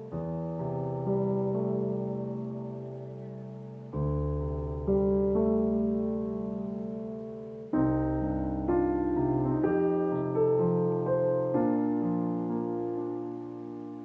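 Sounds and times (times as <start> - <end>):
slow soft piano: 0.0 - 14.0.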